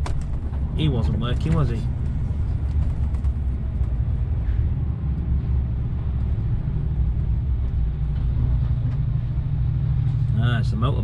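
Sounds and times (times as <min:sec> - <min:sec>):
diesel lorry engine rumbling: 0:00.0 - 0:11.0.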